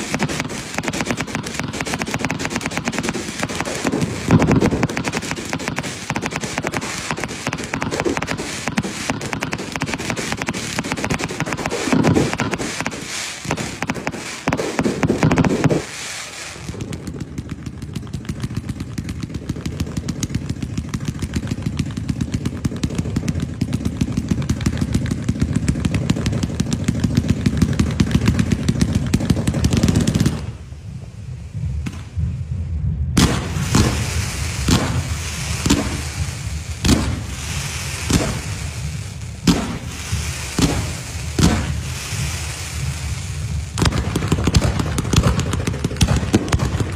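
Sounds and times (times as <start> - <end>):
fireworks barrage: 0.0 - 46.9
sharp firework bangs: 0.0 - 46.9.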